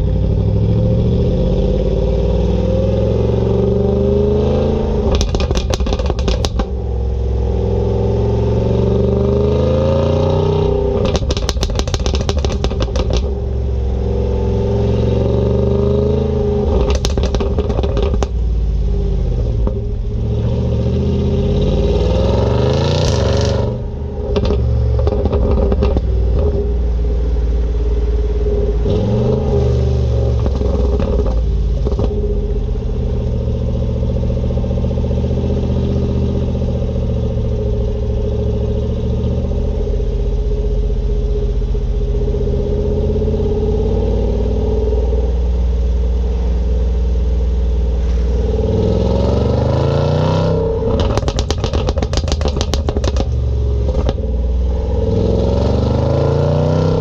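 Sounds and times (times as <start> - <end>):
car engine revving: 0.0 - 57.0
exhaust popping and crackling: 4.7 - 9.0, 10.7 - 57.0.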